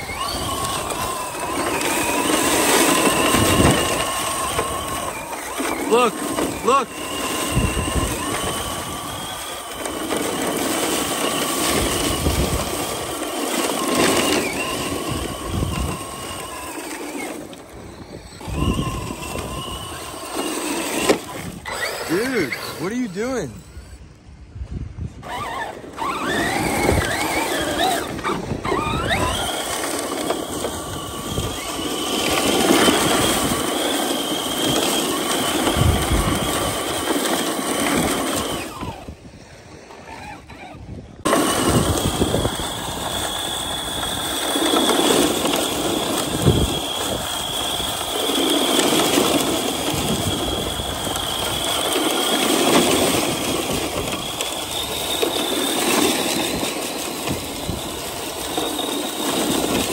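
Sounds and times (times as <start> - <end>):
tyres crunching on gravel: 0.0 - 24.0, 25.2 - 39.2, 41.2 - 59.9
toy truck motor whine: 0.0 - 24.6, 25.2 - 59.9.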